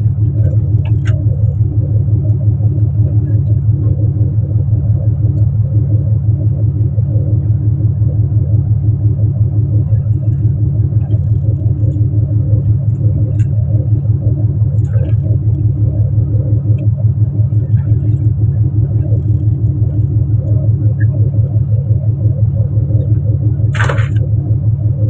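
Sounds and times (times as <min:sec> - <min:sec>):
boat engine throbbing drone: 0:00.0 - 0:25.0.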